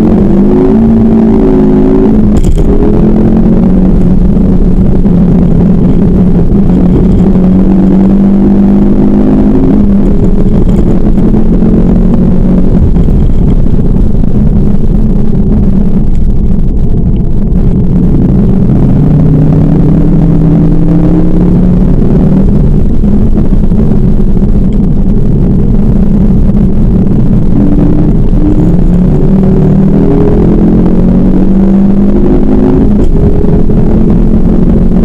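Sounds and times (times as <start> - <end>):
car engine revving inside cabin: 0.0 - 35.0.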